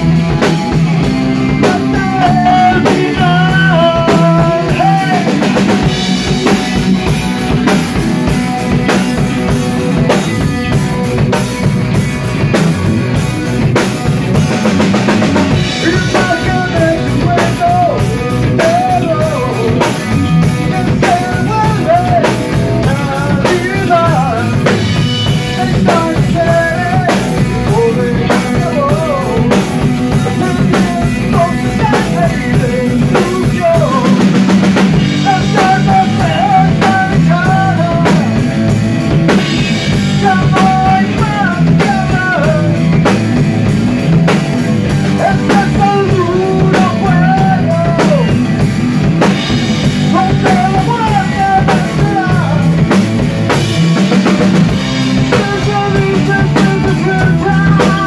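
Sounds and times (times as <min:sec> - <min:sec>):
electric guitar lead melody: 0:00.0 - 0:58.0
hard rock band playing: 0:00.0 - 0:58.0.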